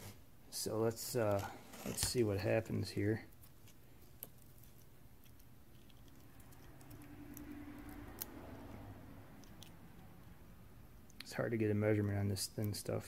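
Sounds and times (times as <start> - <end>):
faint low hum: 0.1 - 13.0.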